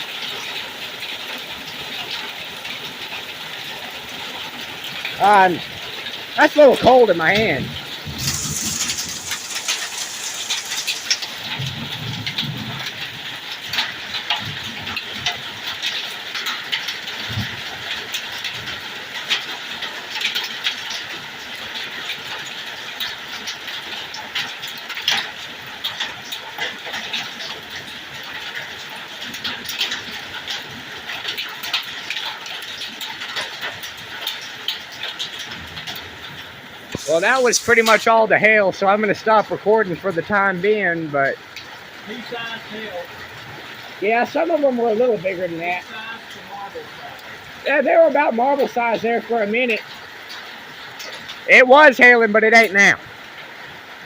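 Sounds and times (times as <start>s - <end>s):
hail and rain falling: 0.0s - 54.0s.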